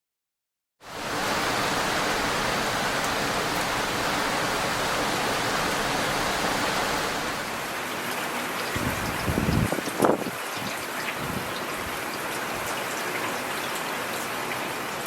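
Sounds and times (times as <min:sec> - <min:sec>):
heavy rain falling: 0:00.8 - 0:15.0.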